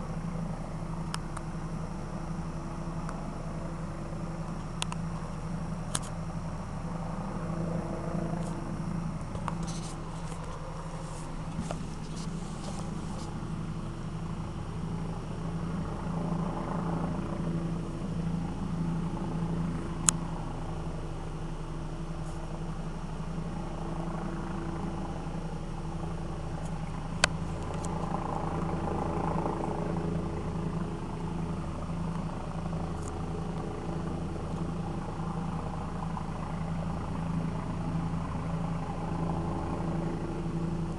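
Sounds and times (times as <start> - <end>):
helicopter drone overhead: 0.0 - 40.9.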